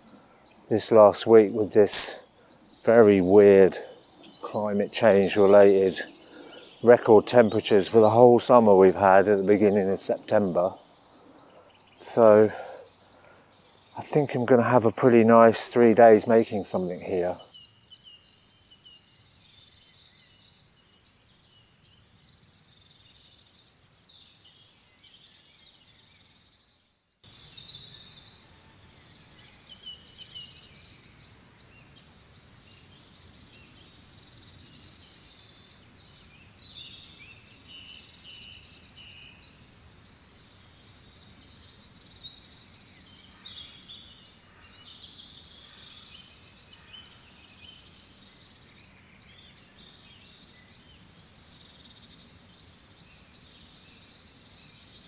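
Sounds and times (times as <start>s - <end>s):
loud rapid bird trills: 0.0s - 18.9s, 27.2s - 55.0s
faint outdoor background: 0.0s - 55.0s
songbirds chirping and singing: 0.0s - 55.0s.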